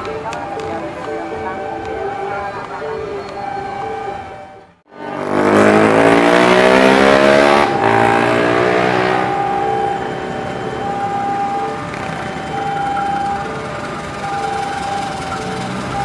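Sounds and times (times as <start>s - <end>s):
locomotive engine revving: 0.0s - 16.0s.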